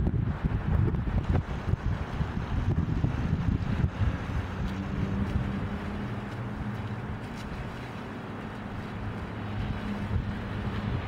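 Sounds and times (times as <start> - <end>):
low engine hum: 0.0 - 11.0
wind on microphone: 0.0 - 11.0.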